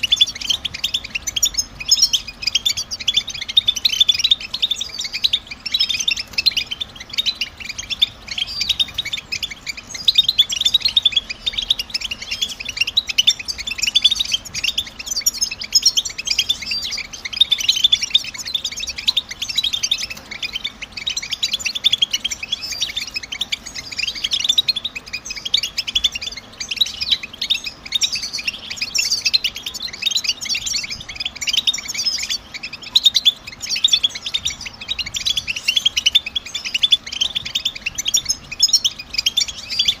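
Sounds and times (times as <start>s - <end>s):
bird twittering: 0.0s - 40.0s.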